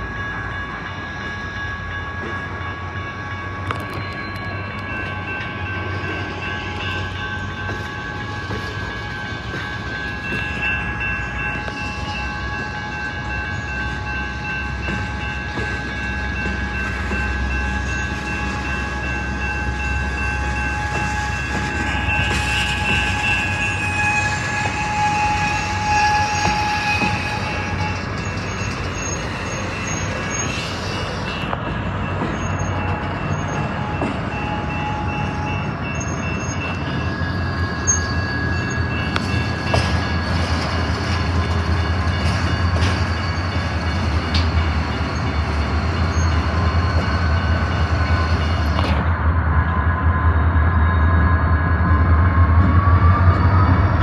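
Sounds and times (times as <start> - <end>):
high-pitched train tones: 0.0 - 54.0
locomotive rumble: 0.0 - 54.0.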